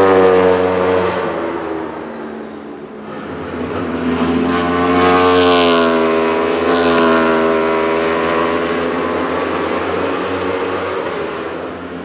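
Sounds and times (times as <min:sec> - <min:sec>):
race car passing at speed: 0:00.0 - 0:12.0.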